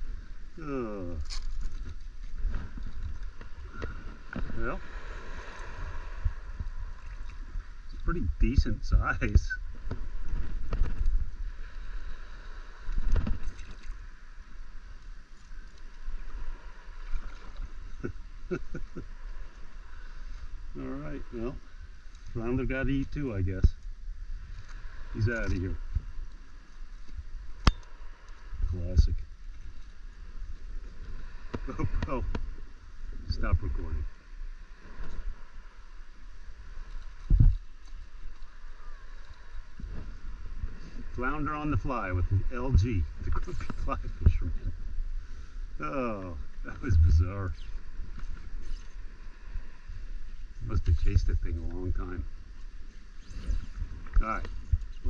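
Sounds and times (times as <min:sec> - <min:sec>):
shallow water sloshing and gurgling: 0:00.0 - 0:55.0
wind rumbling on microphone: 0:00.0 - 0:55.0.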